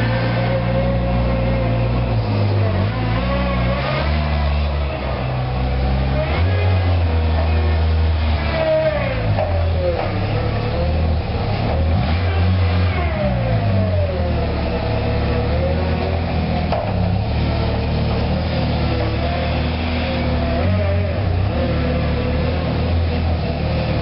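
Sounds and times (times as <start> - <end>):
forklift motor humming: 0.0 - 24.0.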